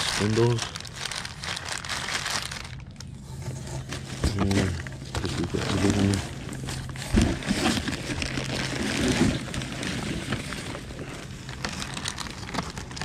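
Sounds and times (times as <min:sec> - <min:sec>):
foam and plastic bag rustling: 0:00.0 - 0:13.0.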